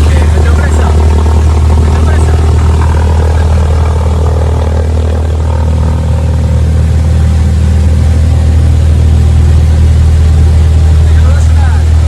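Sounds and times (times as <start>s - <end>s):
plane engine and propeller drone: 0.0s - 12.0s.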